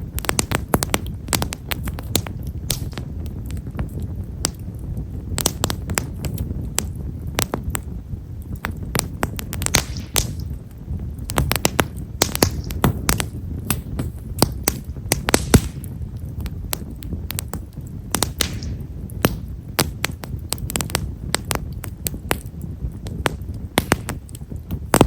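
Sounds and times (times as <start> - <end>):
firewood crackling and popping: 0.0 - 25.0
low fire rumble: 0.0 - 25.0.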